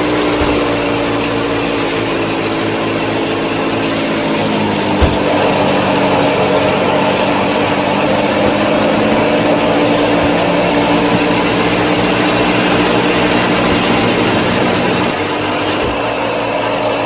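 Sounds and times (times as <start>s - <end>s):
small motor humming: 0.0s - 16.0s.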